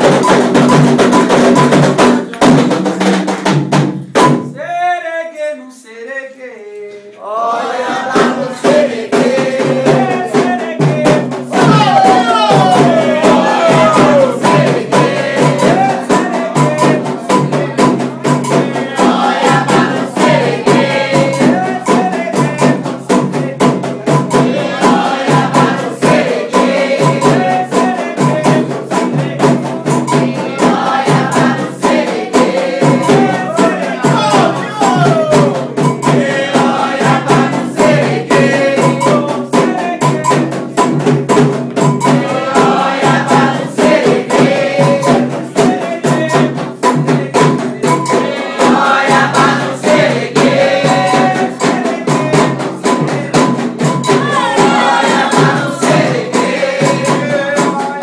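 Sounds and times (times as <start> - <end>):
steady drumming: 0.0 - 5.0, 7.5 - 58.0
group singing: 0.0 - 58.0.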